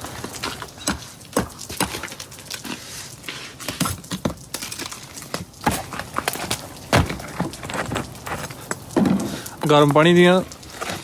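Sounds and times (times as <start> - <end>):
ice being chipped: 0.0 - 10.0.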